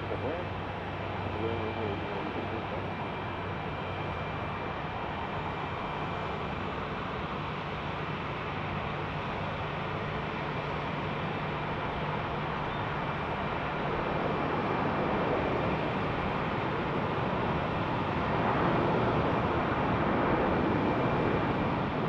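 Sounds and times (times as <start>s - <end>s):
jet airliner engine rushing: 0.0s - 22.0s.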